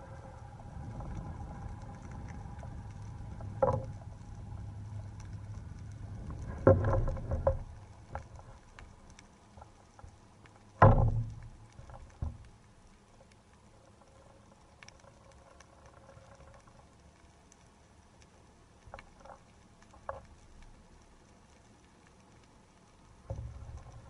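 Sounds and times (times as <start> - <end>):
faint underwater crackling clicks: 0.0 - 24.0.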